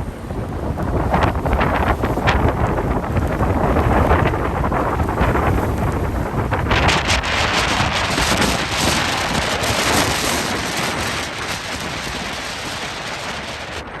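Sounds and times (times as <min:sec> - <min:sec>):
driving rain: 0:00.0 - 0:14.0
wind buffeting microphone: 0:00.0 - 0:14.0.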